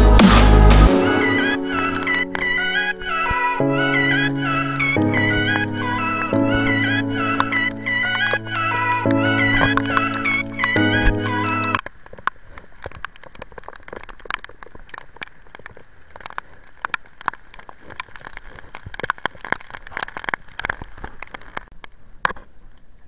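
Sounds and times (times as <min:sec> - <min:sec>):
raindrops ticking: 0:01.2 - 0:21.9.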